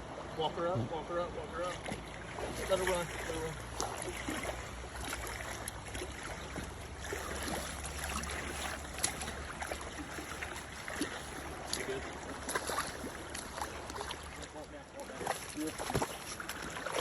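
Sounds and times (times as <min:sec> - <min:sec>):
river water flowing: 0:00.0 - 0:17.0
small splashes and ticks: 0:01.5 - 0:17.0.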